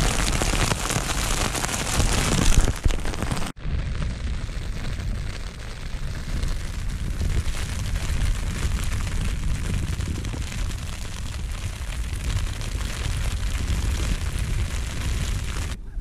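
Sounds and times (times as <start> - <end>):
hail pelting on fabric: 0.0 - 15.8
wind buffeting microphone: 0.0 - 16.0.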